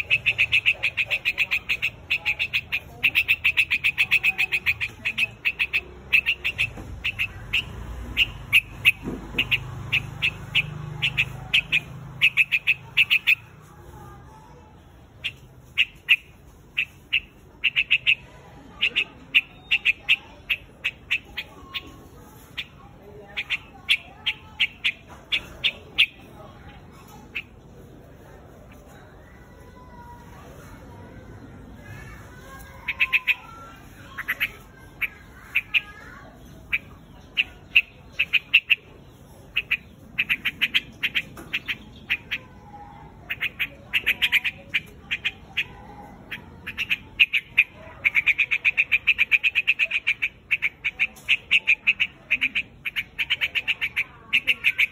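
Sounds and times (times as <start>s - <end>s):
bird giving sharp call notes: 0.0s - 13.5s, 15.2s - 27.5s, 32.4s - 54.9s.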